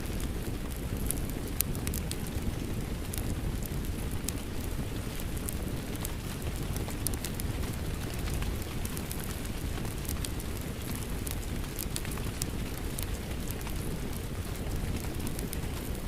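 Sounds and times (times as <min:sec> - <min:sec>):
crackling wood fire: 0:00.0 - 0:16.0
falling rain: 0:00.0 - 0:16.0.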